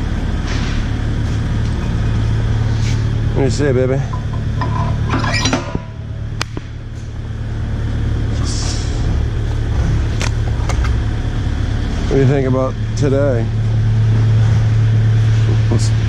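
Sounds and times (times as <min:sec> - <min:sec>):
excavator diesel engine running: 0:00.0 - 0:05.1, 0:05.8 - 0:16.0.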